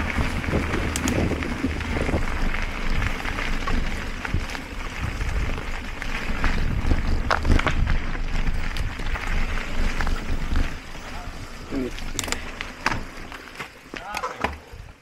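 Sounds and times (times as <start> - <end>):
wind rumbling on microphone: 0.0 - 13.5
bike rattles and knocks: 0.0 - 15.0
bike tyre and drivetrain noise: 0.0 - 15.0.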